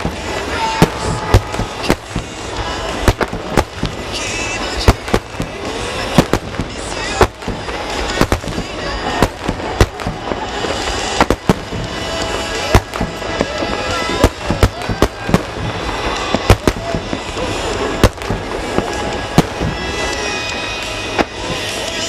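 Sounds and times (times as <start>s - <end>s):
fireworks bursting with bangs: 0.0s - 22.0s
fireworks crackling: 0.0s - 22.0s
music playing: 0.0s - 22.0s.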